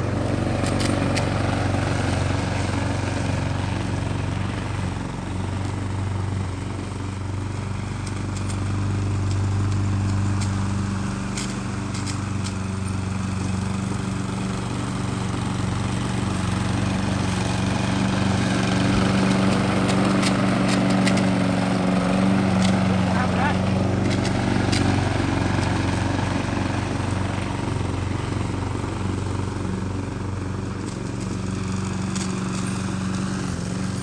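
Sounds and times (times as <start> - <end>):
small engine humming: 0.0 - 34.0.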